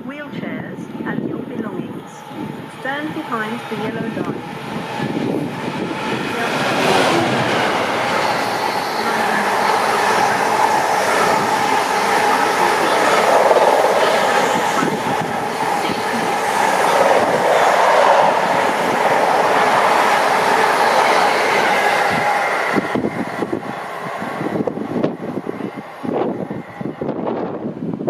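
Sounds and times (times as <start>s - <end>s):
train wheels rushing on rails: 1.1s - 28.0s.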